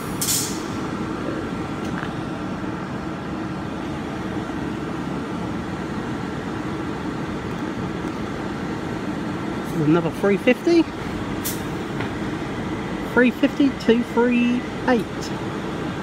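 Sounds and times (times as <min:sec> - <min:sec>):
faint train whine: 0:00.0 - 0:16.0
train rumbling: 0:00.0 - 0:16.0.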